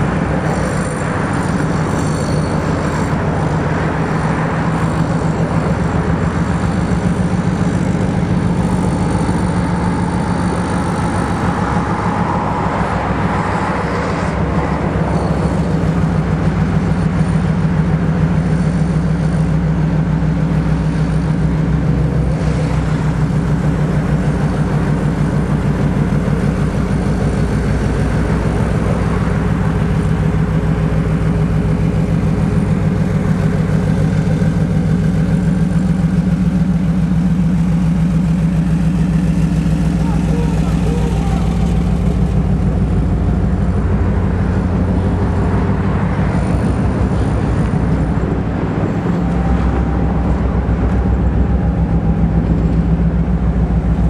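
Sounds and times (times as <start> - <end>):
diesel locomotive engine throbbing: 0.0 - 54.0.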